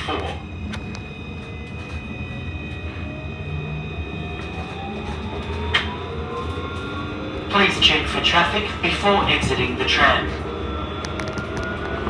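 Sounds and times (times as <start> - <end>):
electric drive whine: 0.0 - 12.0
tram running rumble: 0.0 - 12.0.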